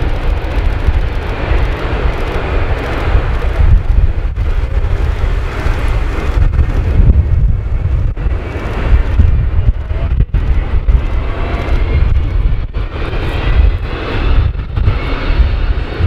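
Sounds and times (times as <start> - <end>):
high rushing noise: 0.0 - 16.0
jet engines rumbling: 0.0 - 16.0.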